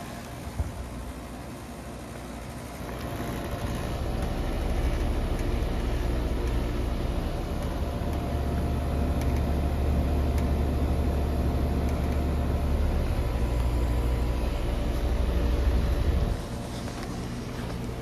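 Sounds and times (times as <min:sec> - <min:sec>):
heat pump low hum: 0:00.0 - 0:18.0.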